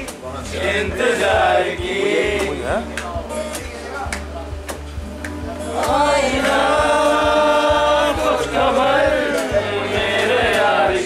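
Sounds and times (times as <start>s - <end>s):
people singing: 0.0s - 3.7s, 5.1s - 11.0s
acoustic guitar: 0.0s - 11.0s.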